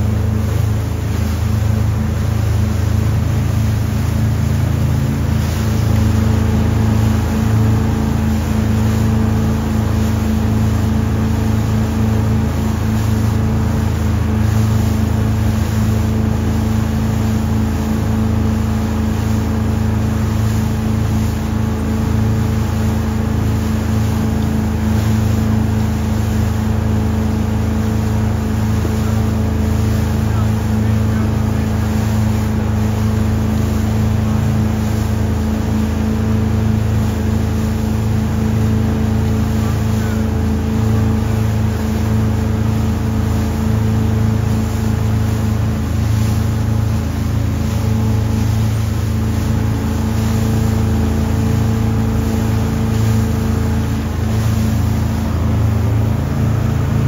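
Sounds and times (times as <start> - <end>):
boat engine drone: 0.0 - 57.0
steady rushing noise: 0.0 - 57.0.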